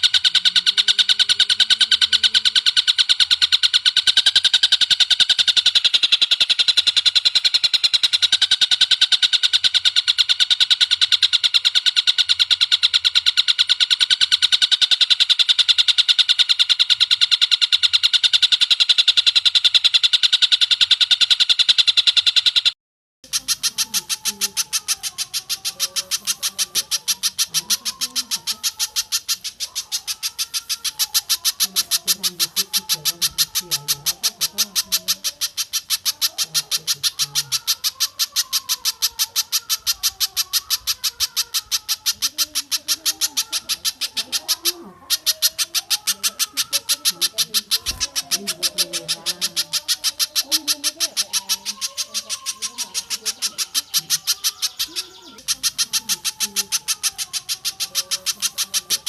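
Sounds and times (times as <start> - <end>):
bird calling sharp repeated notes: 0.0 - 59.0.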